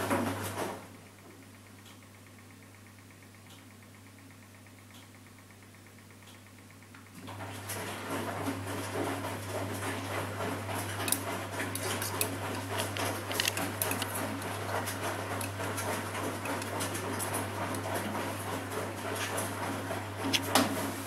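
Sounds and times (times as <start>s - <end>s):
washing machine drum humming: 0.0s - 3.7s, 4.5s - 21.0s.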